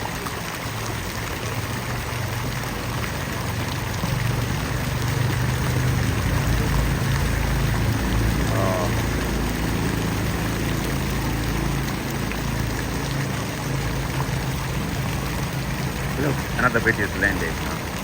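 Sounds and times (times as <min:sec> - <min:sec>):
water fountain splashing: 0:00.0 - 0:18.0.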